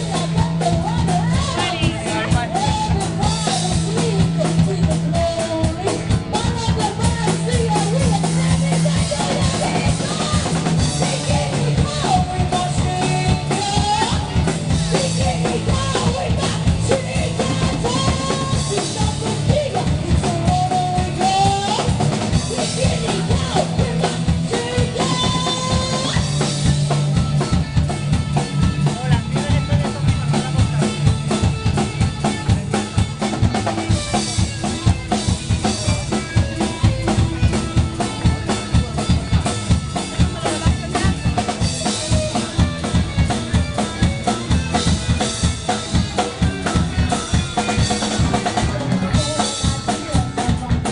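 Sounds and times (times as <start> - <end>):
bass line: 0.0 - 50.9
drum kit fast beat: 0.0 - 50.9.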